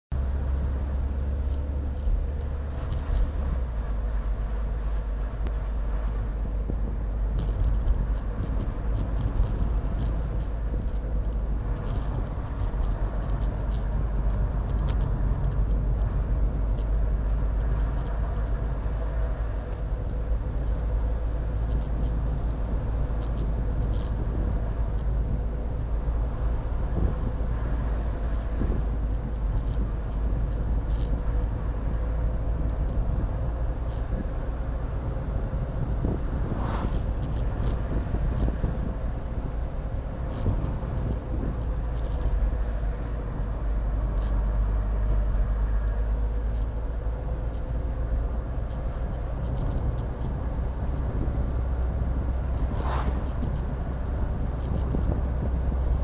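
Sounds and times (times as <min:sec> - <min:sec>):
engine and tyre rumble: 0:00.0 - 0:56.0
light ticks: 0:00.8 - 0:03.6, 0:04.8 - 0:05.6, 0:06.4 - 0:56.0.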